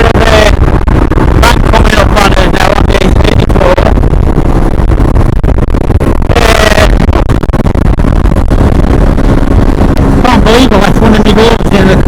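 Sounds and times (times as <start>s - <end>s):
motorcycle engine and road rumble: 0.0s - 12.0s
wind buffeting microphone: 0.0s - 12.0s.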